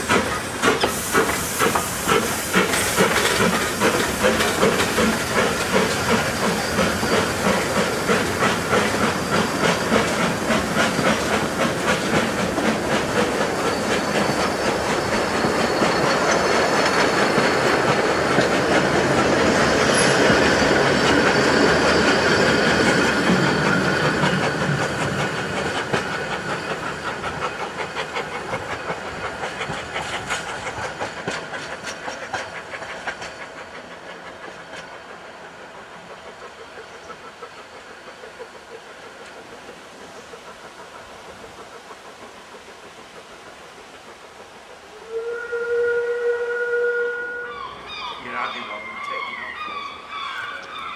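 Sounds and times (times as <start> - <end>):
train wheels clacking on rail joints: 0.0 - 44.9
steam locomotive exhaust beats: 0.0 - 48.8.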